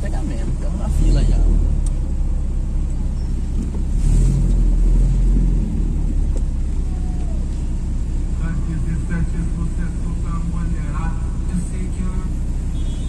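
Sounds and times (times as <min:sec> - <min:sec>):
engine and road rumble in cab: 0:00.0 - 0:13.0.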